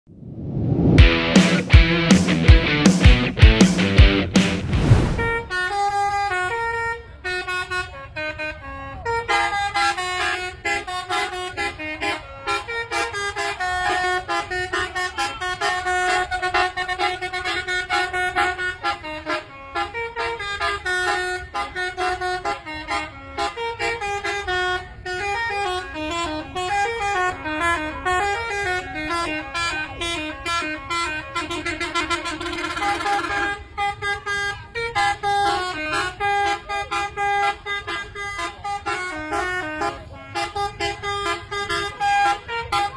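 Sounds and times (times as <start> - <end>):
bus horn playing a melody: 5.2 - 42.9.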